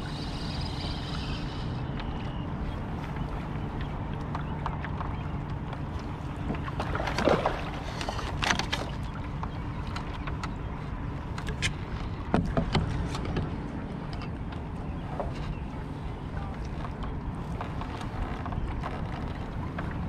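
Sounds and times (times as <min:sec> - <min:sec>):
water lapping against hull: 0:00.0 - 0:20.0.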